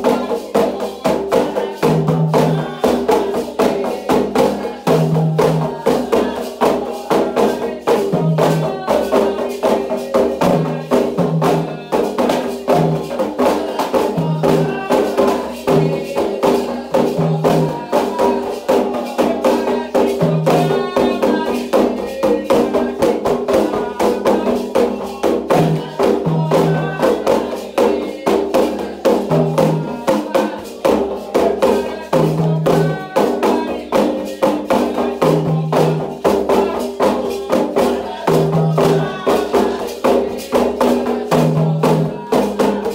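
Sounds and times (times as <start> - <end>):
hand drums and percussion: 0.0 - 42.9
voices singing: 0.0 - 42.9.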